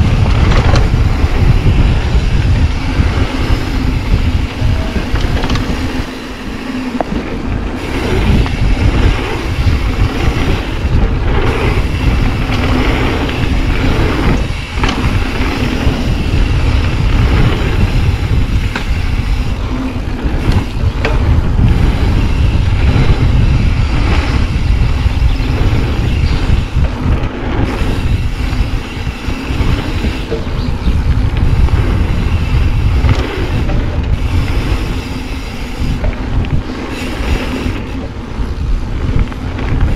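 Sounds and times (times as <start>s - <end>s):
bike clicks and rattles: 0.0s - 39.9s
wind on microphone: 0.0s - 39.9s.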